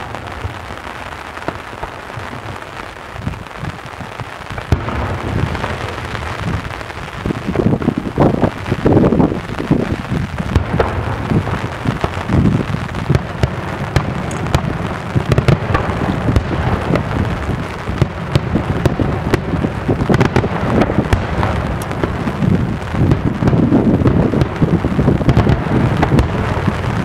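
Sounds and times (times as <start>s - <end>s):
fireworks bursting bangs: 0.0s - 27.0s.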